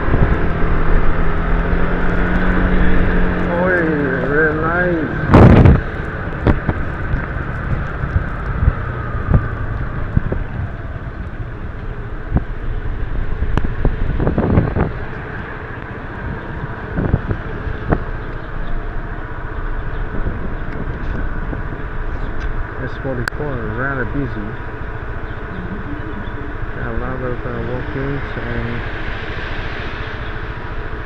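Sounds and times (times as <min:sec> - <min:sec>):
motorbike engine rumble: 0:00.0 - 0:31.0
wind buffeting microphone: 0:00.0 - 0:31.0.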